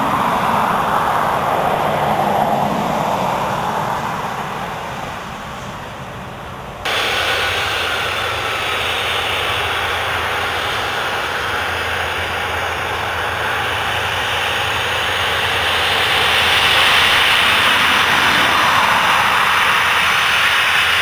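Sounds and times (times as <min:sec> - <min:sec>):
jet engines hissing: 0:00.0 - 0:21.0.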